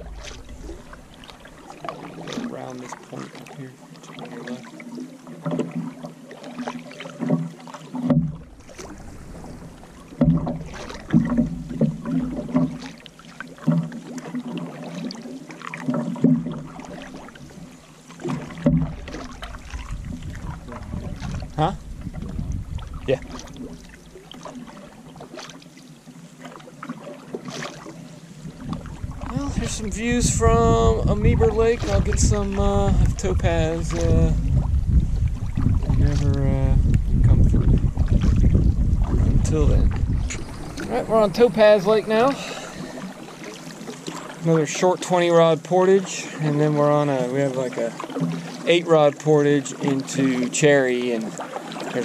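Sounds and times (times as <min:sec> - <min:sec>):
paddles splashing in water: 0:00.0 - 0:52.0
water running along hull: 0:00.0 - 0:52.0.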